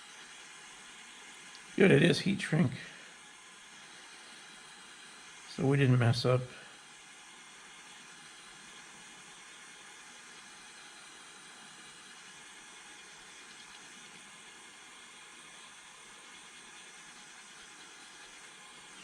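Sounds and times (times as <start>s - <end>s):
soldering torch hissing: 0.0s - 19.0s.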